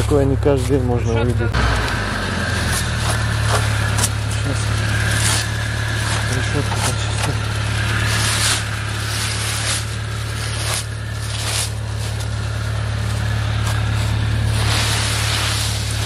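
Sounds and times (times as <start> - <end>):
vehicle engine idling: 0.0 - 16.0
dry leaves crackling and rustling: 1.6 - 16.0.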